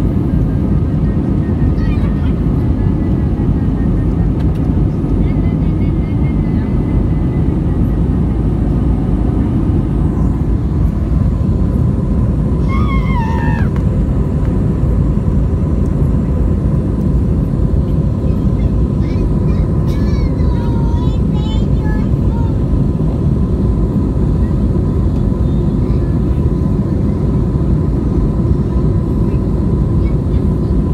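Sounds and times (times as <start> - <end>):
aircraft cabin engine rumble: 0.0 - 30.9.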